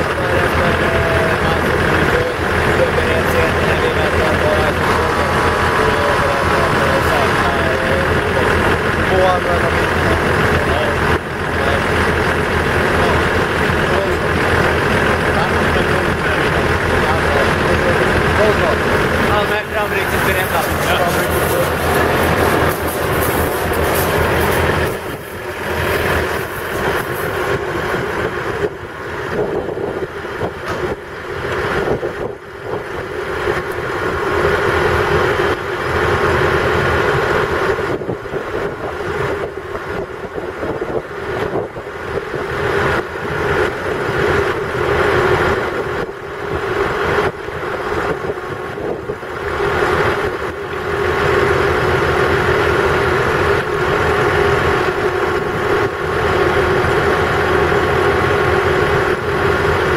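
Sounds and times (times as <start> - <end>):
vehicle engines idling: 0.0 - 59.9.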